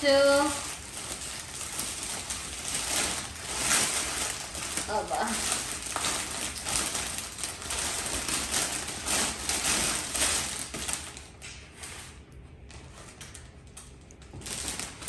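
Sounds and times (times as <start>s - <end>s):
cellophane crinkling: 0.0s - 15.0s.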